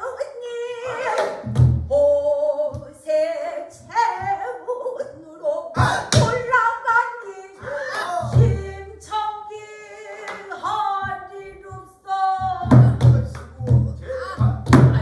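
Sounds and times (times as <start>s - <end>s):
wavering vocal singing: 0.0s - 15.0s.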